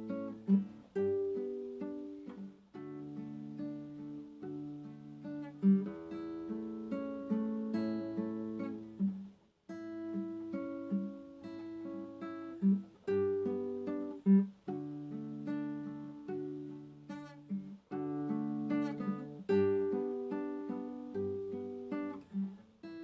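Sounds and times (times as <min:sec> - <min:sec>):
fingerpicked acoustic guitar: 0:00.0 - 0:23.0.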